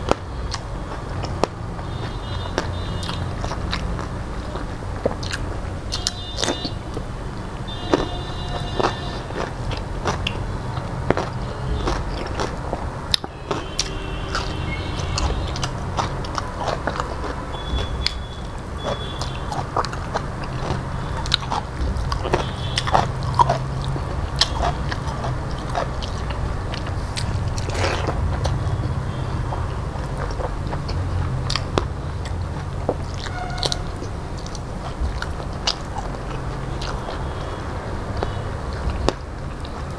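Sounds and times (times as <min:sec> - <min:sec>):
man chewing with wet smacks: 0:00.0 - 0:39.9.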